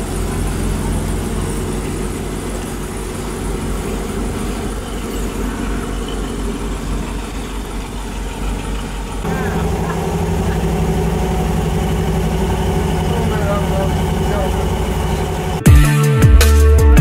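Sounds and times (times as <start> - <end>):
vehicle engine idling: 0.0 - 15.8.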